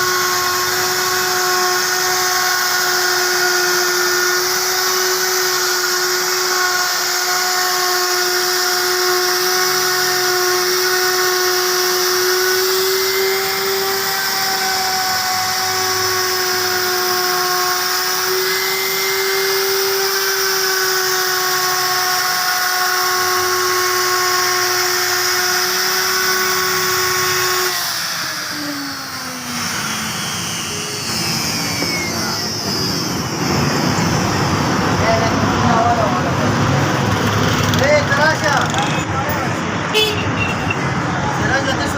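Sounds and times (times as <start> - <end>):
wood router motor whining: 0.0 - 38.8.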